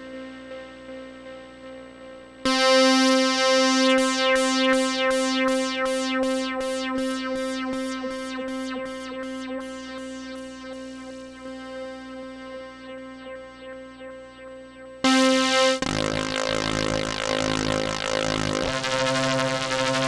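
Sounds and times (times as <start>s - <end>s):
pulsed synthesizer chord: 2.5s - 20.0s.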